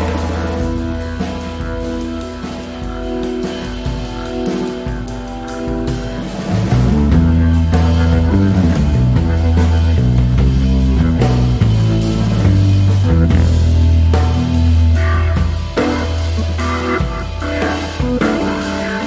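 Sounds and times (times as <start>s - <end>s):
heavy low bass line: 0.0s - 19.0s
jazz-rock fusion trio: 0.0s - 19.0s.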